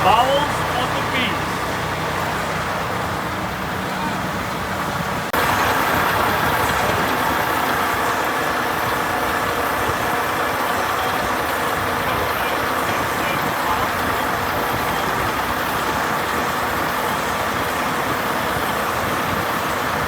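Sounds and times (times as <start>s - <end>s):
diesel engine running: 0.0s - 20.0s
heavy farm machinery: 0.0s - 20.0s.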